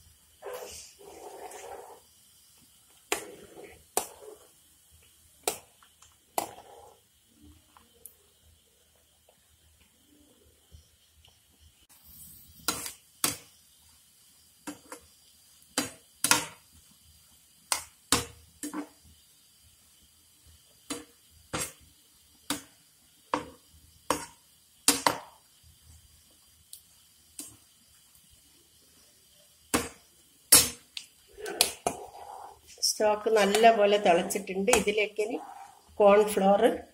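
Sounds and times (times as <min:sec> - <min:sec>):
bread frying in oil: 0:00.0 - 0:36.9.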